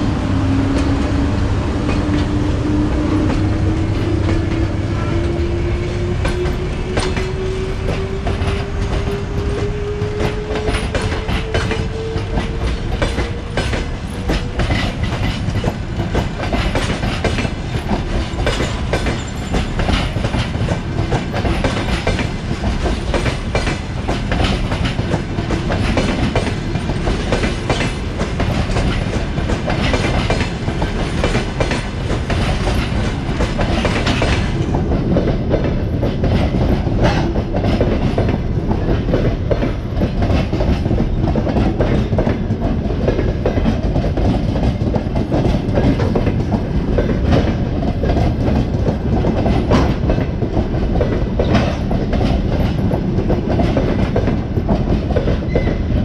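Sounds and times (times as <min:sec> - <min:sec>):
electric locomotive whine: 0:00.0 - 0:56.0
train wheels clicking over rail joints: 0:00.0 - 0:56.0.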